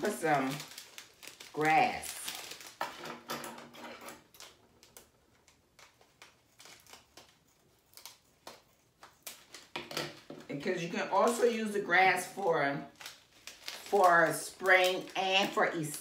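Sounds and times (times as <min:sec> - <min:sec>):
plastic packet crinkling: 0:00.0 - 0:16.0.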